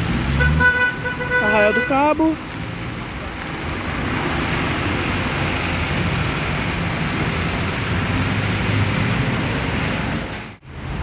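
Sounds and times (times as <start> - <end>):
city traffic noise: 0.0 - 11.0
bus diesel engine running: 2.0 - 11.0.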